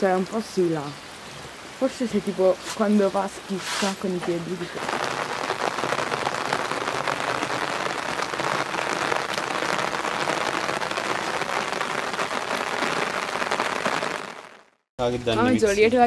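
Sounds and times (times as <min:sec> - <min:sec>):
rain on wet paving: 0:00.0 - 0:14.8.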